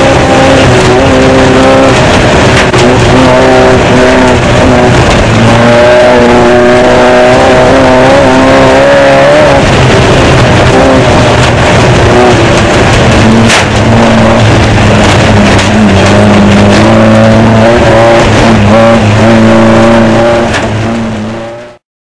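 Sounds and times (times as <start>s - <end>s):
race car engine running hard: 0.0s - 21.8s.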